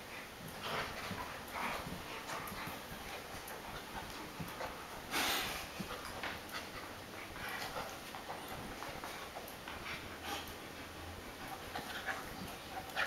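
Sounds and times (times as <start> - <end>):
dogs huffing and snuffling: 0.0 - 13.0
dogs scuffling: 0.0 - 13.0.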